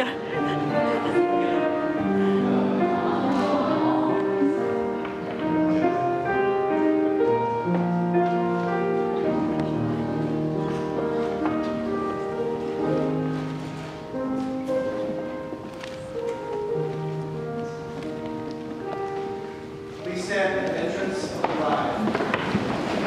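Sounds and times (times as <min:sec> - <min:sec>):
slow instrumental music: 0:00.0 - 0:23.0.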